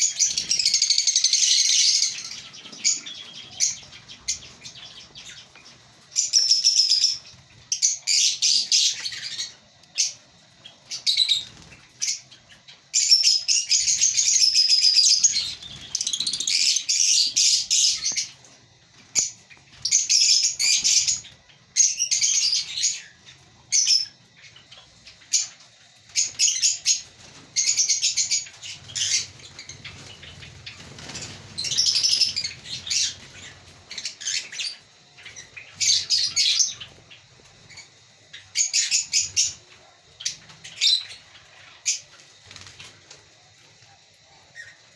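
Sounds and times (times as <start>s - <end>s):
lovebirds chattering and chirping: 0.0s - 44.9s.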